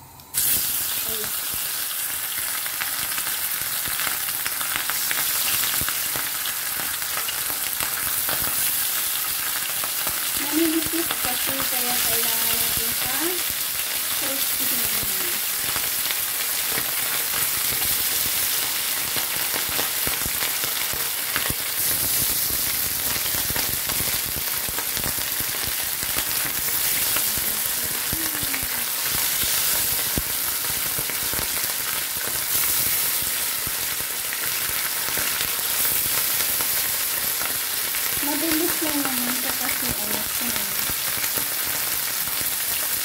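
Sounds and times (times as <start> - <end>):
fish frying in hot oil: 0.4 - 43.0.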